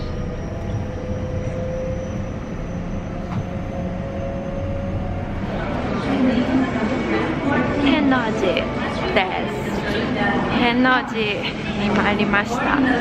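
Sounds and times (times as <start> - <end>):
train cabin rumble: 0.0 - 10.5.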